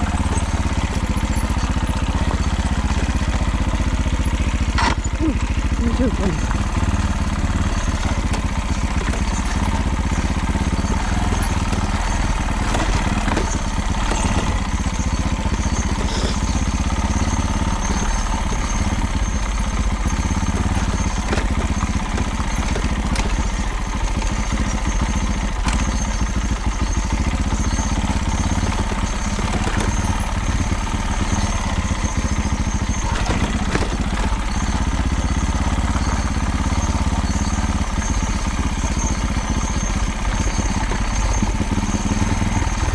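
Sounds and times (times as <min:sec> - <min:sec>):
rattle: 0:00.0 - 0:42.9
small engine idling: 0:00.0 - 0:42.9.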